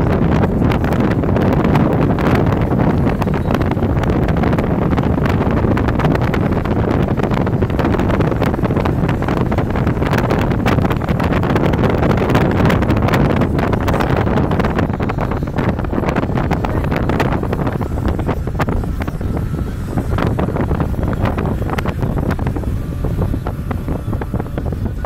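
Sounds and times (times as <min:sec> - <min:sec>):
road and engine rumble: 0:00.0 - 0:25.0
wind buffeting microphone: 0:00.0 - 0:25.0.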